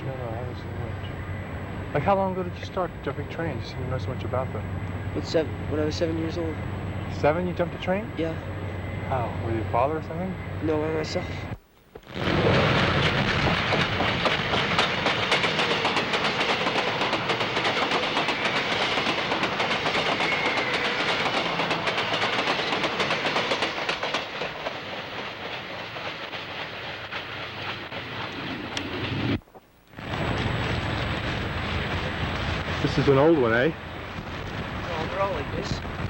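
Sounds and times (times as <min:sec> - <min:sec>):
freight train cars rattling: 0:00.0 - 0:11.5, 0:12.1 - 0:29.4, 0:30.0 - 0:36.0.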